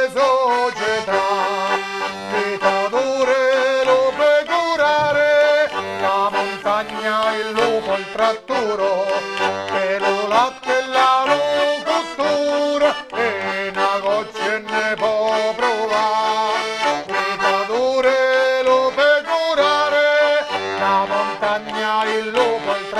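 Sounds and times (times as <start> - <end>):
button accordion playing folk tune: 0.0 - 22.9.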